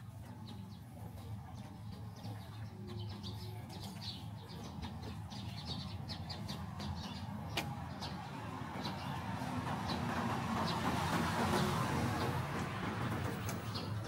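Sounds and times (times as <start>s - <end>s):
low rumble of city background: 0.0s - 14.0s
small birds chirping: 0.1s - 12.6s.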